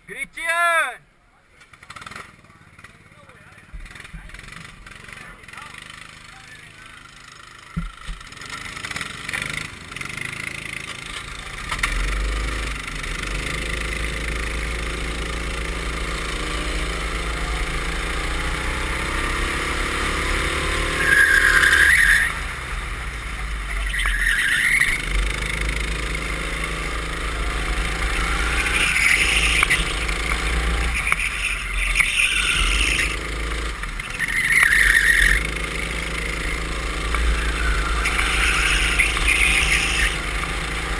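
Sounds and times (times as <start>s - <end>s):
go-kart engine accelerating: 1.6s - 40.9s.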